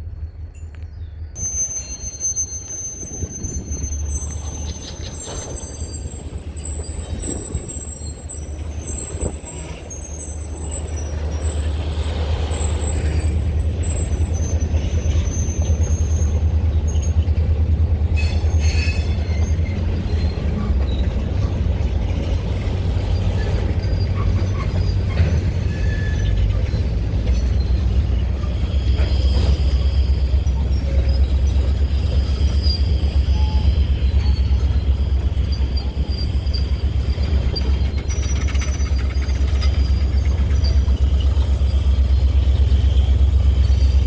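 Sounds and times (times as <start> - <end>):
diesel locomotive rumble: 0.0 - 44.0
high wheel squeals: 0.5 - 44.0.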